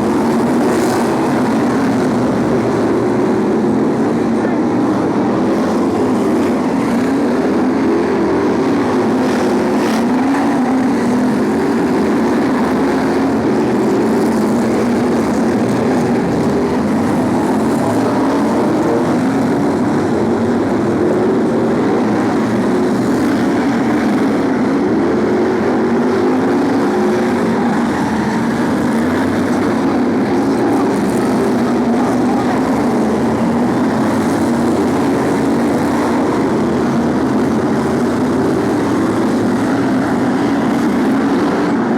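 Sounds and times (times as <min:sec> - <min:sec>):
racing car engines droning: 0:00.0 - 0:41.9.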